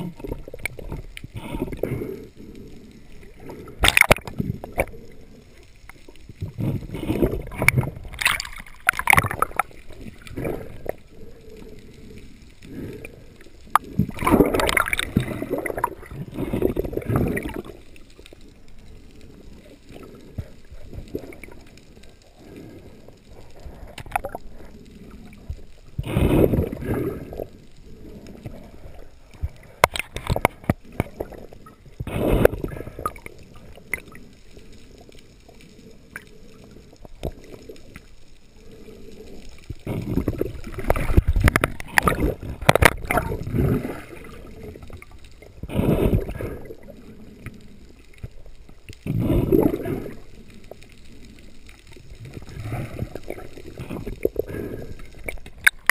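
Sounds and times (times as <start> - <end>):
water sloshing and gurgling: 0.0 - 55.9.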